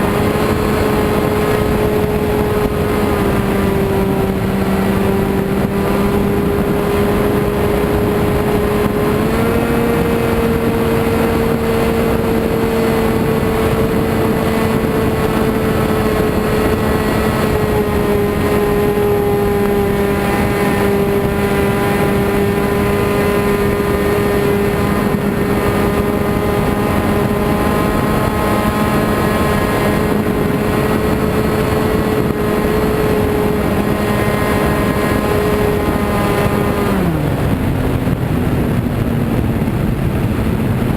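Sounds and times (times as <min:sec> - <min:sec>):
model airplane motor running: 0:00.0 - 0:40.5.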